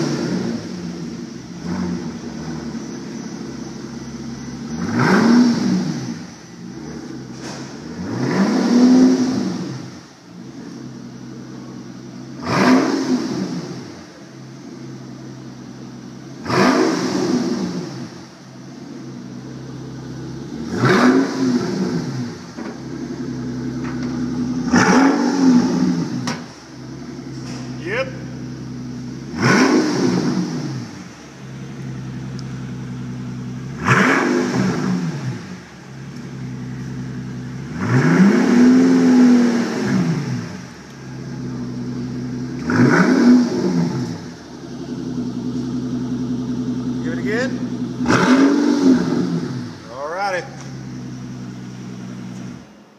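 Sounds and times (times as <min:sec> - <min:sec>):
car engine idling and revving: 0:00.0 - 0:52.9.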